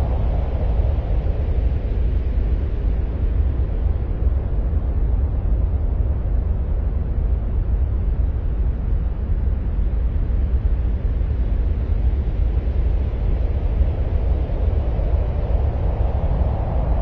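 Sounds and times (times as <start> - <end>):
deep bass ambient noise: 0.0 - 17.0.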